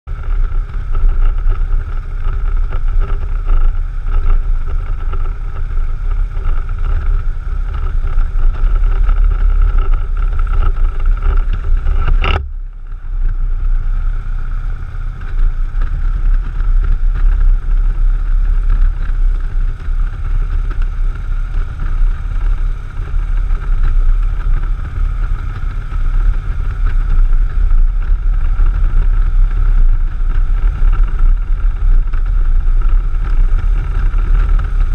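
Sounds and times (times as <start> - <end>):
motorcycle engine drone: 0.0 - 34.9
wind rumble on microphone: 0.0 - 34.9.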